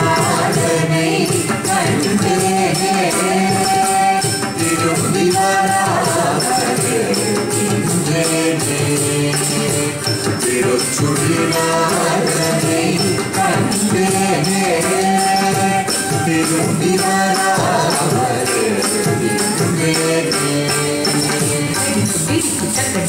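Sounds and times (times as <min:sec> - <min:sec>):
bright jingling: 0:00.0 - 0:23.0
percussive beat: 0:00.0 - 0:23.0.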